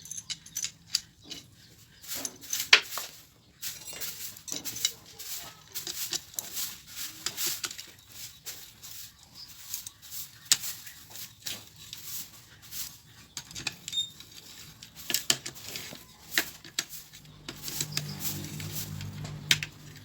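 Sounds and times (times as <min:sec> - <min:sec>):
metal tools clinking and rattling: 0:00.0 - 0:20.0.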